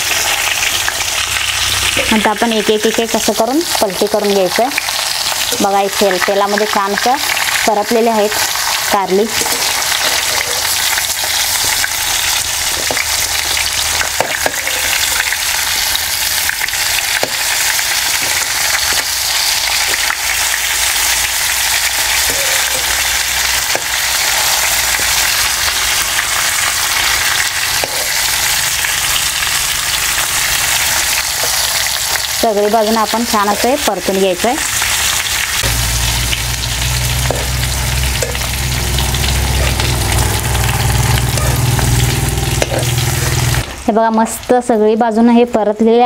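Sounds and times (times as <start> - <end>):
vegetables sizzling in hot oil: 0.0 - 45.8.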